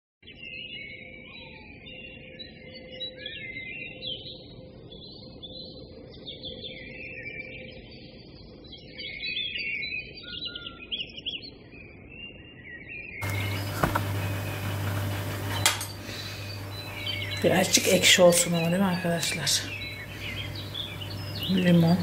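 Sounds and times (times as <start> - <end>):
small bird singing: 0.2 - 22.0.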